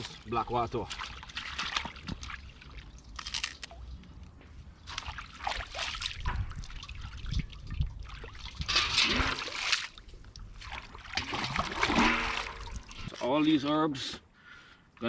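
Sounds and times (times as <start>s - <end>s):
water sloshing and splashing: 0.0s - 13.3s.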